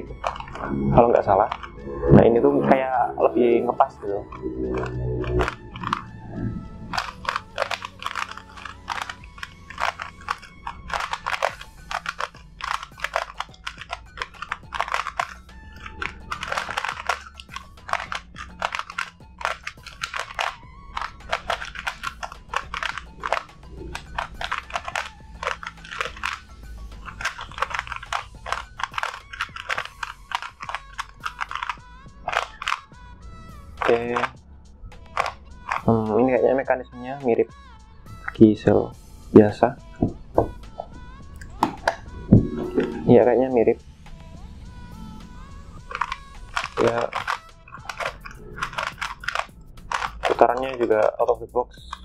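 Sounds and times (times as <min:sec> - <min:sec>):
puzzle cube clicking: 0:00.0 - 0:36.2, 0:39.8 - 0:44.5, 0:45.2 - 0:52.0
soft background music: 0:00.0 - 0:52.0.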